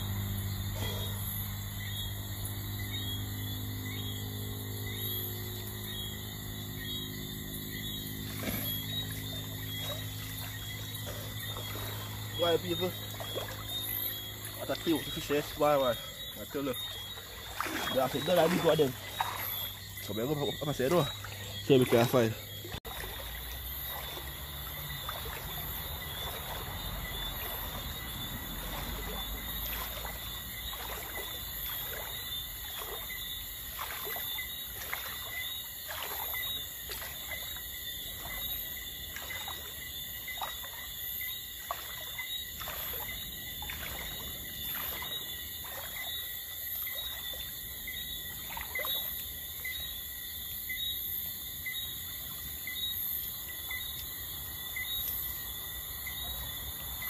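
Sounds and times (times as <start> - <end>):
night insects chirring: 0.0 - 57.0
rhythmic water splashes: 0.0 - 57.0.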